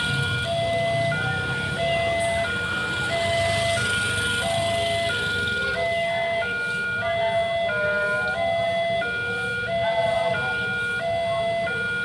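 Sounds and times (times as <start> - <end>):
motorcycle engines running: 0.0 - 11.9
level-crossing two-tone alarm: 0.0 - 12.0.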